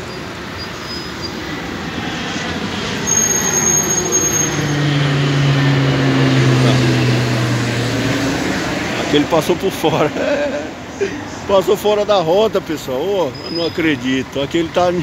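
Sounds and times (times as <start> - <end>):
airliner jet roar overhead: 0.0 - 15.0
high jet whine: 0.0 - 15.0.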